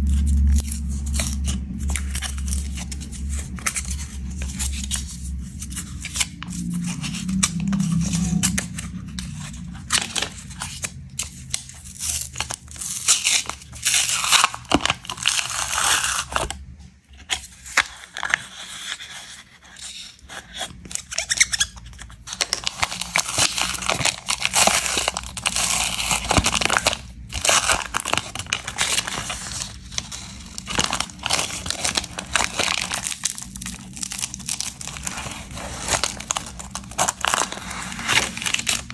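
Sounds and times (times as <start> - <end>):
paper wrapper tearing and crinkling: 0.0 - 16.6, 17.2 - 38.9.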